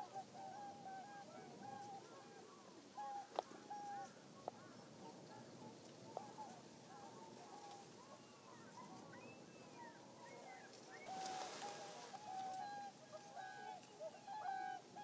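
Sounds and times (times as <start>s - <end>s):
chorus of bird calls: 0.0s - 15.0s.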